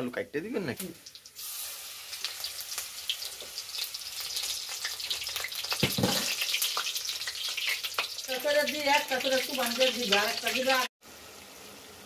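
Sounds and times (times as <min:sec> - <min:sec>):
batter deep-frying in hot oil: 0:00.0 - 0:12.0.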